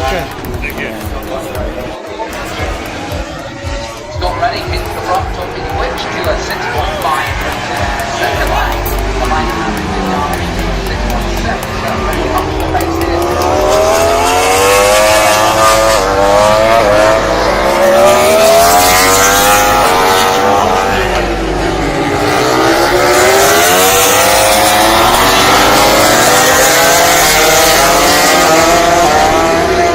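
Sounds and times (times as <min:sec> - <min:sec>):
racing motorcycle engines revving: 0:00.0 - 0:29.9.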